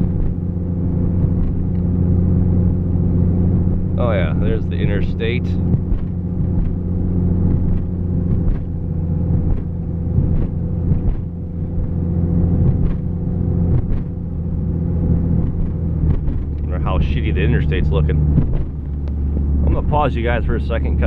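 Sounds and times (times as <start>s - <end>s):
car engine drone: 0.0s - 21.0s.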